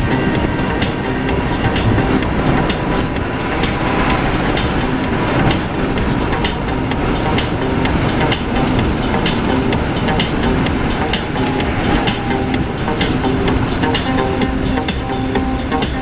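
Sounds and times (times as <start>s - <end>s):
car tyres on wet road: 0.0s - 16.0s.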